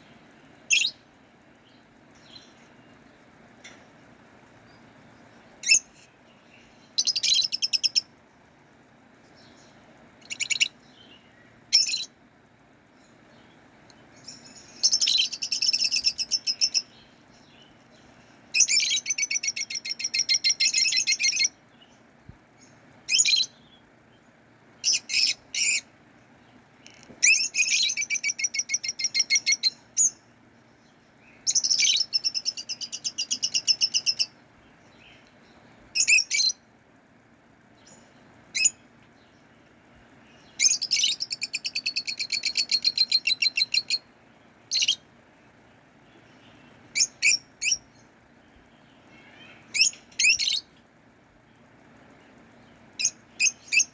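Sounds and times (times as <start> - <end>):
lovebirds chirping: 0.0 - 12.2, 12.8 - 36.7, 37.6 - 53.9
faint steady hum: 0.0 - 53.9.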